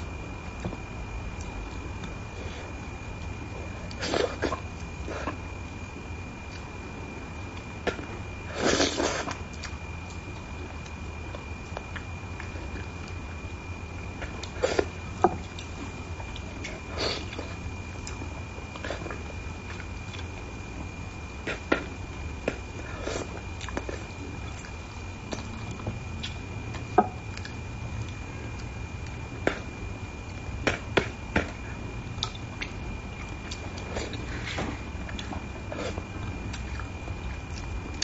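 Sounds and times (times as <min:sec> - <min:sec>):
soft chewing: 0:00.4 - 0:38.0.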